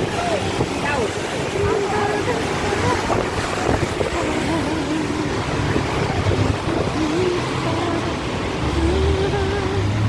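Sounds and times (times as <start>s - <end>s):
tyres hissing on wet road: 0.0s - 10.0s.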